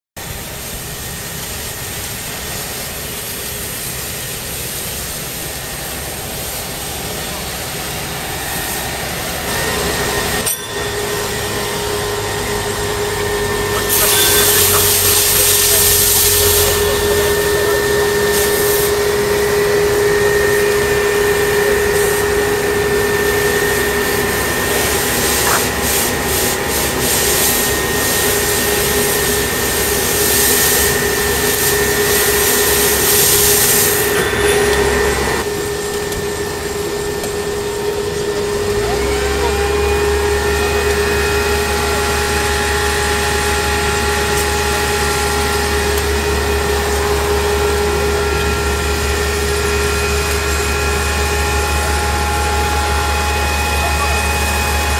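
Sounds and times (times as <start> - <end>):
fire engine pump whining: 0.2 - 54.9
fire hose spraying water: 0.2 - 54.9.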